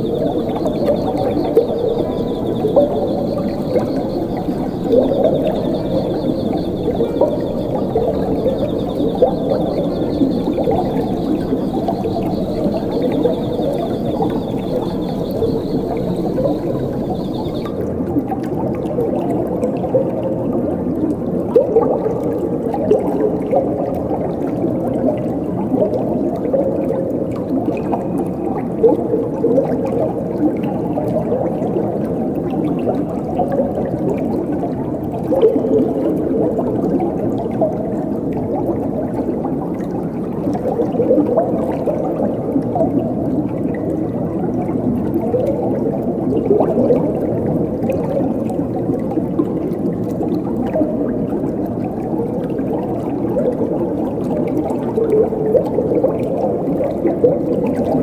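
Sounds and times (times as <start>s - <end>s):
water gurgling and bubbling: 0.0s - 58.0s.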